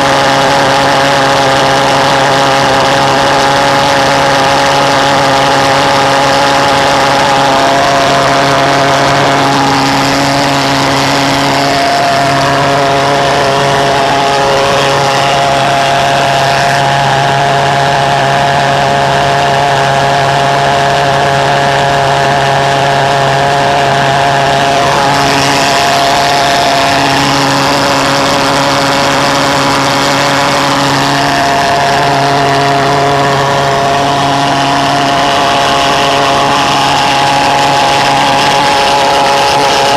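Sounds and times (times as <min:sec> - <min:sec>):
pulse jet engine droning: 0:00.0 - 0:39.9.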